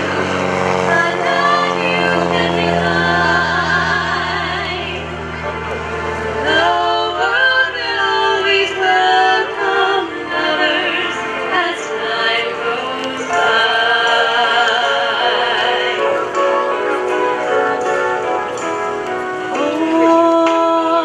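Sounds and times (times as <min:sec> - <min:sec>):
choir singing: 0:00.0 - 0:05.1, 0:06.3 - 0:18.7
light aircraft engine drone: 0:00.0 - 0:21.0.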